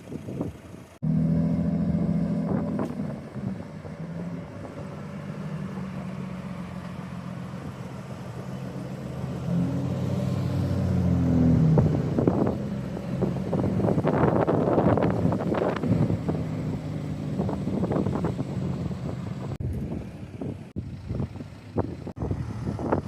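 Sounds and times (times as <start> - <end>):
car engine running at low revs: 0.0 - 23.0.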